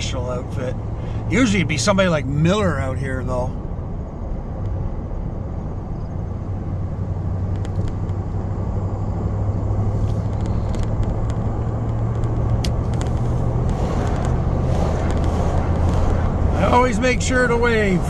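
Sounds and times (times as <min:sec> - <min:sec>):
road noise rushing: 0:00.0 - 0:18.0
truck engine drone: 0:00.0 - 0:18.0.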